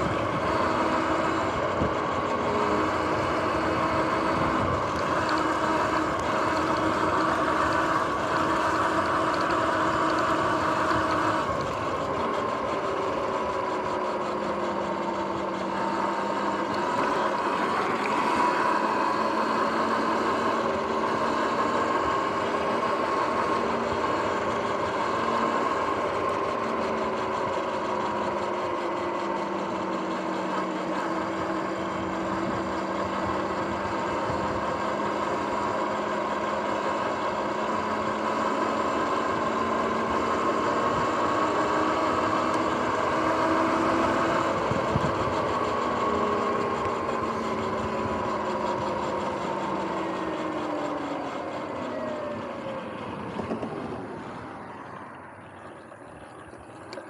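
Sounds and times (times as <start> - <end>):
electric motor whining: 0.0 - 57.0
road and wind noise: 0.0 - 57.0.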